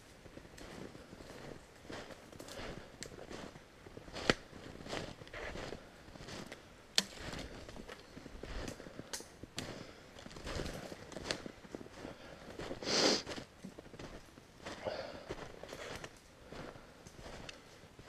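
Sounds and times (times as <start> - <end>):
footsteps crunching through snow: 0.0 - 9.0, 9.6 - 18.0.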